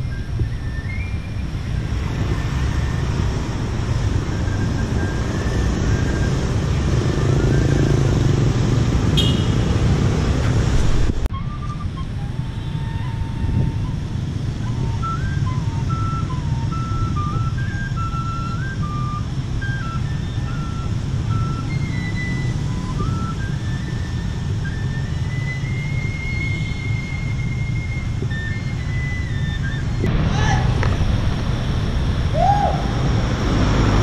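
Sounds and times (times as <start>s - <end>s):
city traffic rumble: 0.0s - 34.0s.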